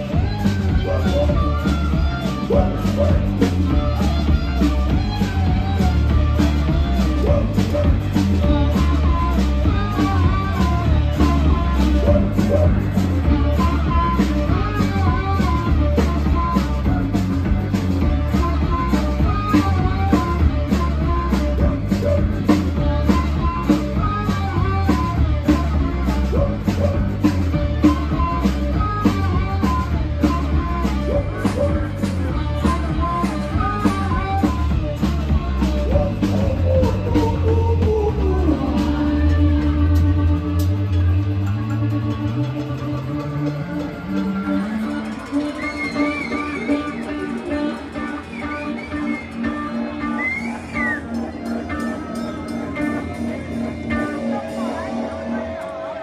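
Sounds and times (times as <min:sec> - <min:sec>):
keyboard: 0:00.0 - 0:56.0
live rock band playing: 0:00.0 - 0:56.0.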